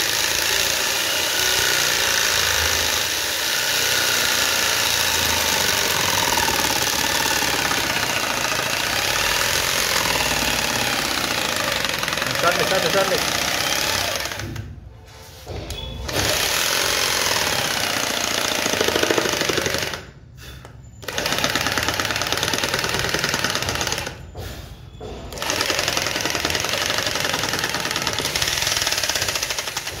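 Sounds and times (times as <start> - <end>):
electric jigsaw cutting wood: 0.0 - 14.6, 16.1 - 20.2, 21.0 - 24.2, 25.3 - 30.0.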